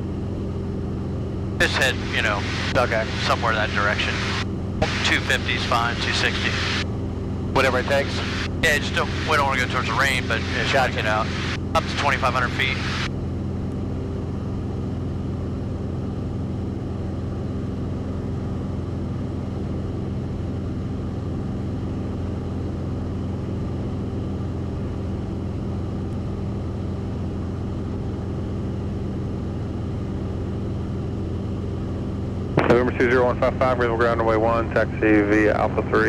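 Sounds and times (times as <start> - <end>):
airplane engine and propeller drone: 0.0 - 36.0.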